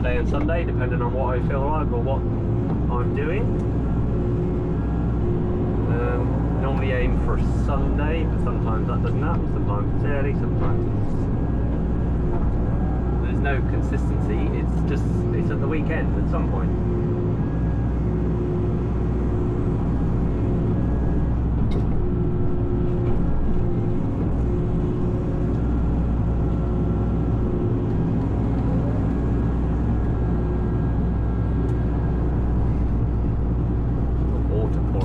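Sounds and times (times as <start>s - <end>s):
vehicle engine drone: 0.0s - 35.0s.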